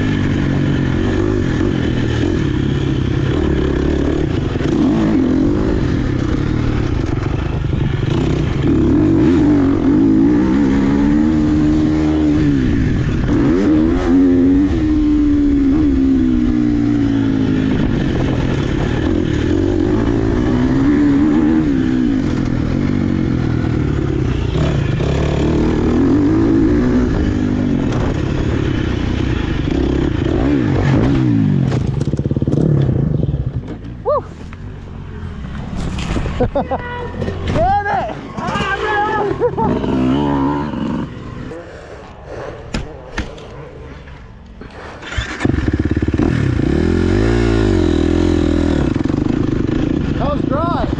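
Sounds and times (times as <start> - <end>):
dirt bike engine revving: 0.0 - 42.2, 43.2 - 50.9.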